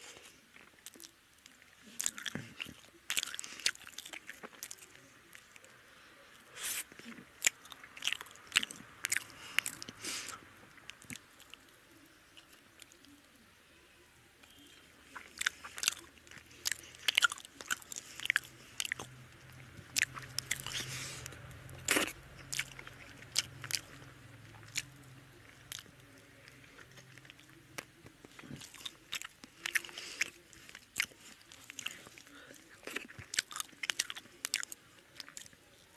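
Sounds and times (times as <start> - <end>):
person chewing food: 0.0 - 5.7, 6.6 - 13.2, 14.4 - 35.6
faint low hum: 0.0 - 35.9.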